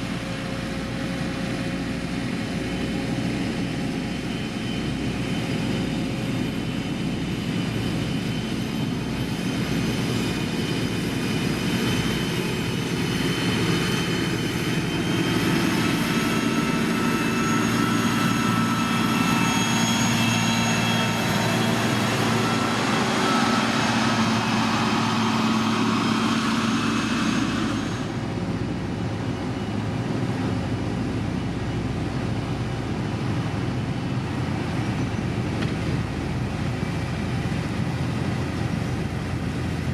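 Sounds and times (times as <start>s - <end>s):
diesel machinery engine hum: 0.0s - 39.9s
high machine whine: 0.0s - 39.9s.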